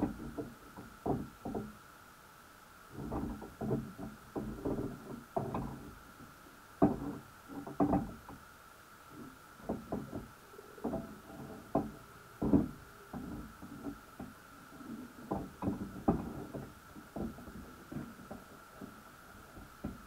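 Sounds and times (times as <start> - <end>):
dull knocks and clicks underwater: 0.0 - 1.8, 2.9 - 6.0, 6.8 - 8.4, 9.1 - 20.0
faint steady whine: 0.0 - 20.0.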